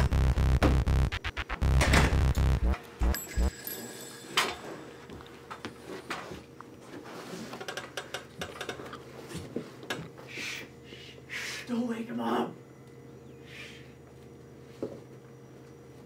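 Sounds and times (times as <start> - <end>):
faint room hum: 2.8 - 16.0.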